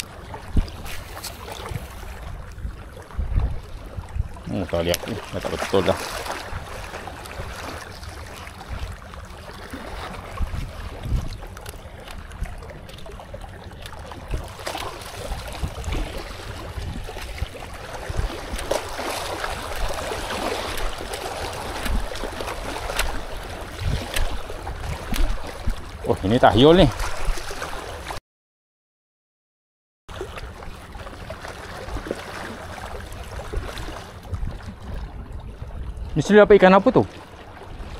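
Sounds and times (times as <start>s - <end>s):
wind buffeting microphone: 0.0s - 9.1s, 9.7s - 27.8s, 33.1s - 36.6s
small waves lapping on rocks: 0.0s - 28.2s, 30.1s - 35.0s.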